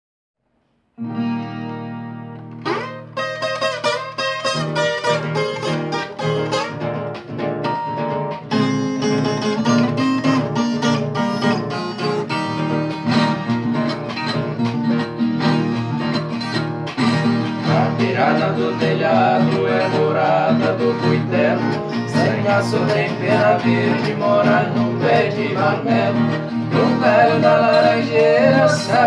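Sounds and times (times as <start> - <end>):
plucked string guitar playing: 1.0 - 29.0.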